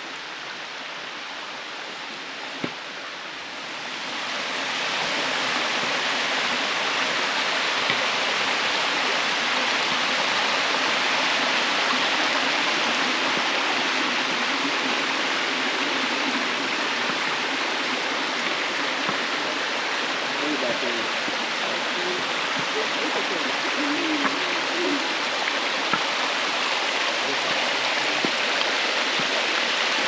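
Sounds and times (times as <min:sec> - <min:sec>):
creek water rushing over rocks: 0:00.0 - 0:30.0.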